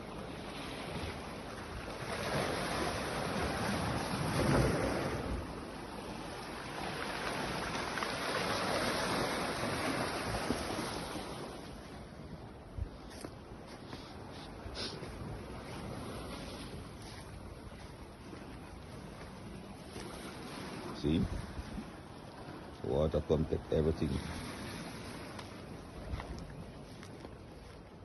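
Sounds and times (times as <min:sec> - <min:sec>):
sea surf rushing: 0:00.0 - 0:13.1, 0:13.7 - 0:28.0.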